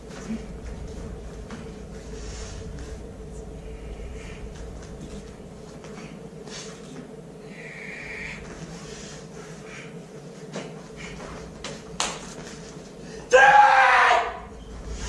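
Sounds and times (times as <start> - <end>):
soft movement noises: 0.0 - 13.2
steady hum: 0.0 - 15.0.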